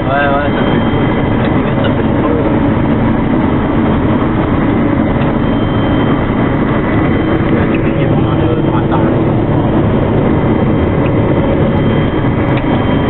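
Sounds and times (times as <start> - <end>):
combine harvester drone: 0.0 - 13.0.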